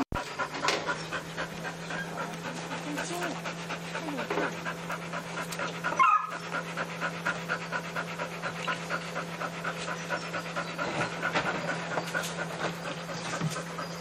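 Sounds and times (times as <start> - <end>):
dog panting rapidly: 0.0 - 14.0
steady low hum: 0.0 - 14.0.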